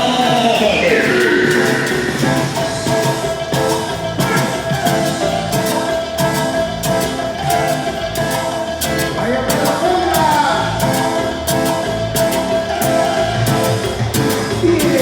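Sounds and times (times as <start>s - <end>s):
latin dance music: 0.0s - 15.0s.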